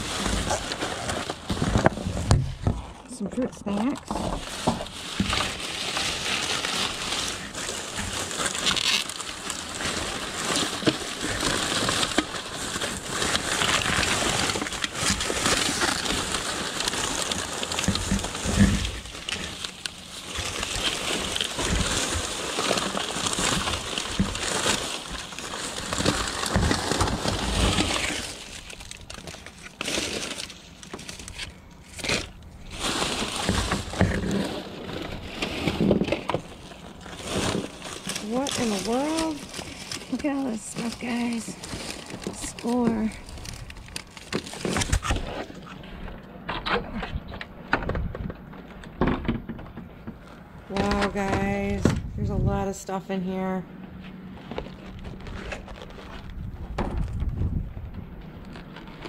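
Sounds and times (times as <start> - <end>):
items bumping: 0.0 - 52.5
plastic bags rustling: 0.0 - 59.0.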